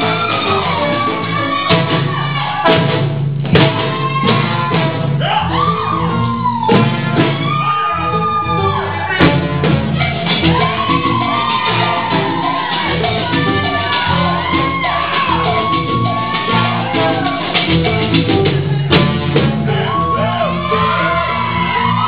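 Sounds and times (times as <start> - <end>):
salsa music: 0.0 - 22.0.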